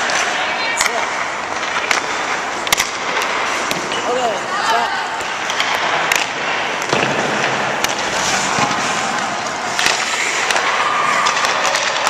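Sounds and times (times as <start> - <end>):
sticks striking puck: 0.0 - 4.2, 5.1 - 12.0
skates scraping on ice: 0.0 - 12.0.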